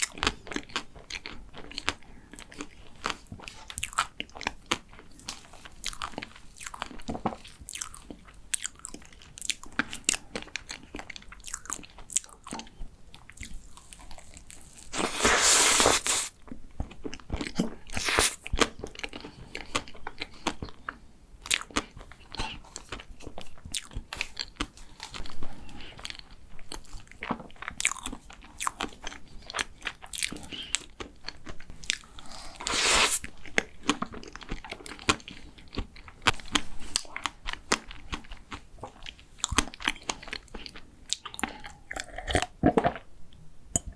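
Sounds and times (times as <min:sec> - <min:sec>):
chewing with crisp bites: 0:00.0 - 0:43.0.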